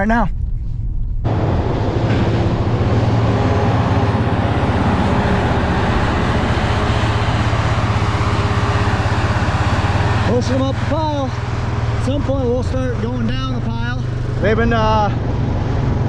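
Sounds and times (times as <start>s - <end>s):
tractor diesel engine droning: 1.3s - 16.0s.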